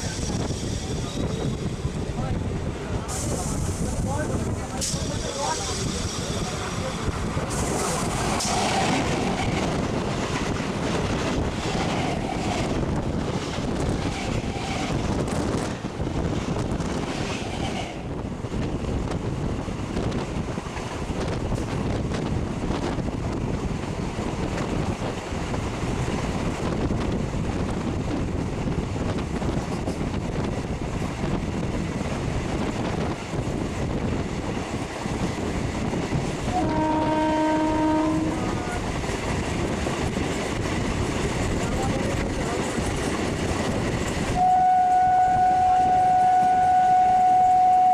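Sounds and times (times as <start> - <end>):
electric train rumbling: 0.0 - 47.9
passing train rush with clacks: 0.0 - 47.9
wind on microphone: 0.0 - 47.9.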